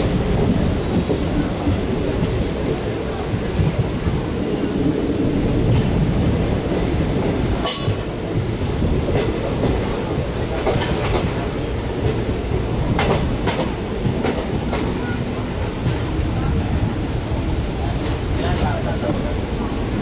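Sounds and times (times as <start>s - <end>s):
rushing wind: 0.0s - 20.0s
train wheels rumbling on rails: 0.0s - 20.0s.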